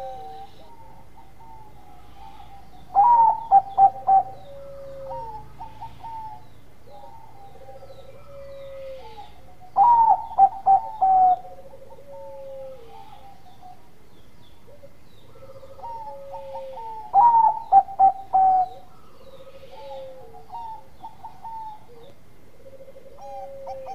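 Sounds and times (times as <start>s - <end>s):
dove song phrases: 0.0s - 23.9s
faint dove cooing: 0.0s - 23.9s.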